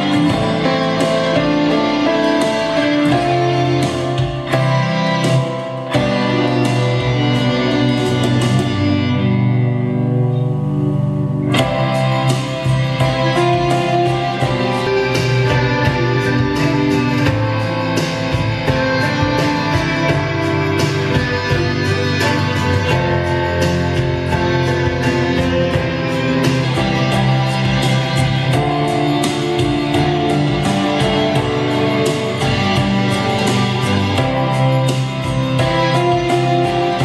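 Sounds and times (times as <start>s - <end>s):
music with steady beat: 0.0s - 37.0s.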